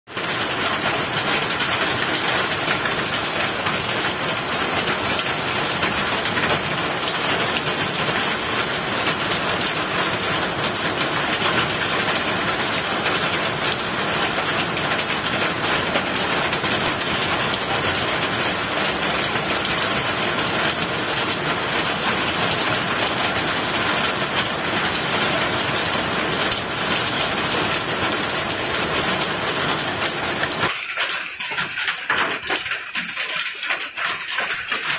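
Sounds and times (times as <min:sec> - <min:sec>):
heavy rain on grass and paving: 0:00.1 - 0:34.9.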